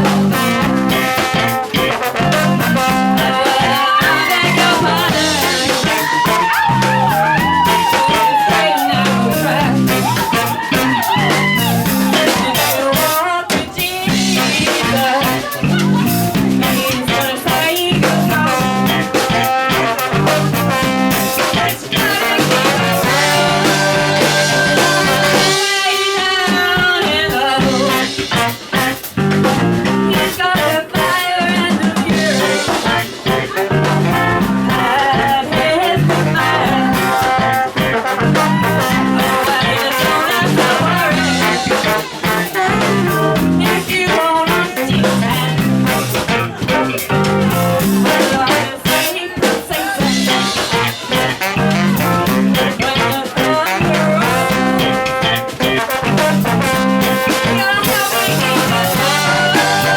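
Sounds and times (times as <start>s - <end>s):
bass guitar line: 0.0s - 59.9s
funk band playing: 0.0s - 59.9s.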